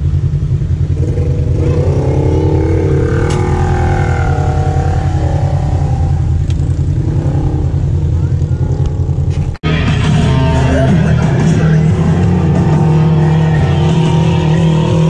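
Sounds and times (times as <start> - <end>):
low rumble: 0.0 - 15.0
utv engine revving: 0.0 - 15.0.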